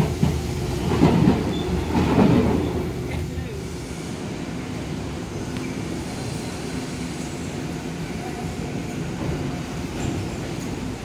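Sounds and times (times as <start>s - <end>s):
tram running rumble: 0.0s - 11.0s.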